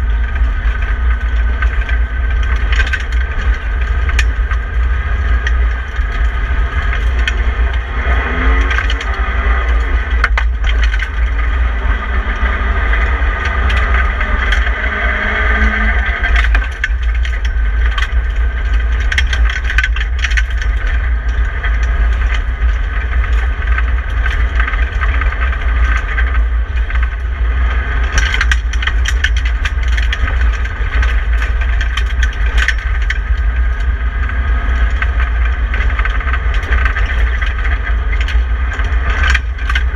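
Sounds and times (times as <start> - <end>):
gravel striking car: 0.0 - 39.9
rally car engine under load: 0.0 - 39.9.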